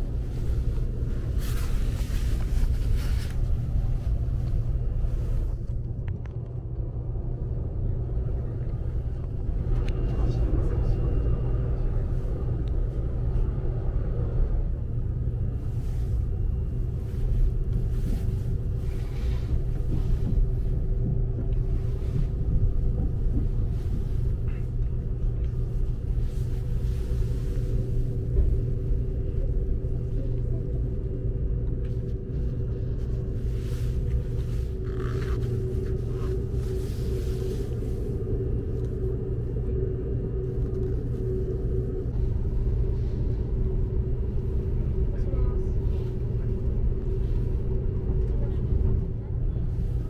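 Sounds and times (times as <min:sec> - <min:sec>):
constant hum: 0:00.0 - 0:50.0
train wheels rumbling: 0:06.9 - 0:50.0.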